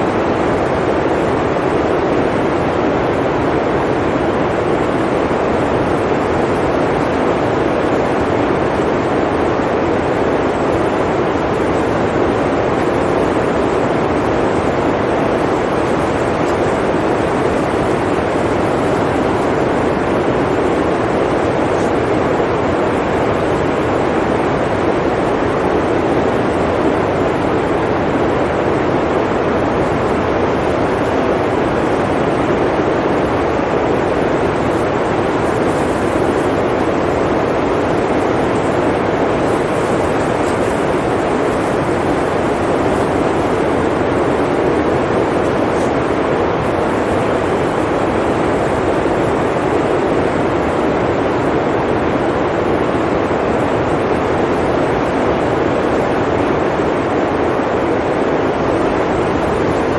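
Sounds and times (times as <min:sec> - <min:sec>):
blizzard wind blowing: 0:00.0 - 0:59.9.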